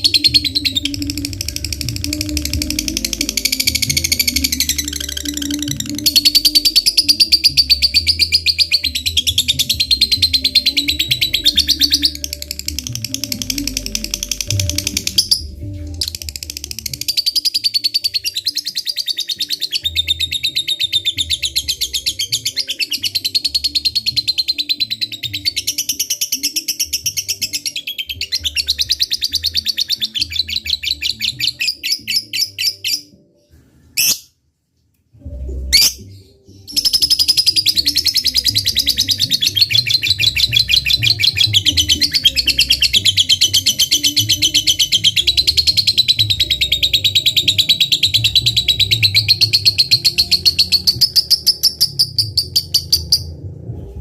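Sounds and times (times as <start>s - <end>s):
lovebird chattering trill: 0.0s - 33.1s, 36.7s - 53.3s.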